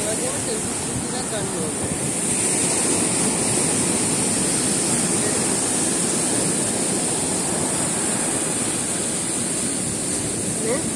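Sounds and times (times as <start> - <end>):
waves breaking on rocky shore: 0.0 - 10.9.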